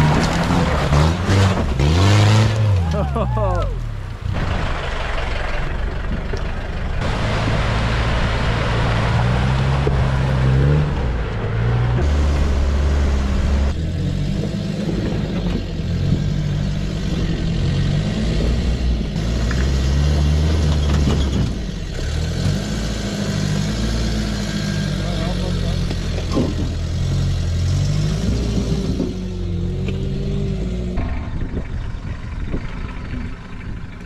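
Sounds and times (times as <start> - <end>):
pickup engine revving: 0.0 - 33.9.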